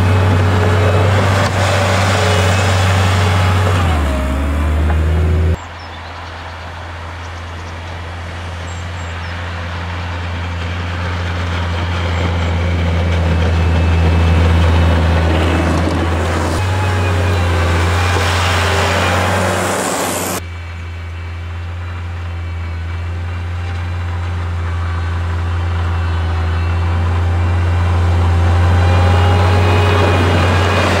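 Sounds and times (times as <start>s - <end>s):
loader engine running: 0.0s - 5.6s, 8.2s - 31.0s.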